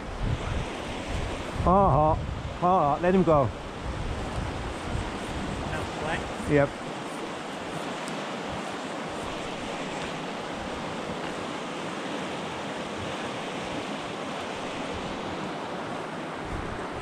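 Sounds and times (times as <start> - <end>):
river rushing over rapids: 2.2 - 17.0.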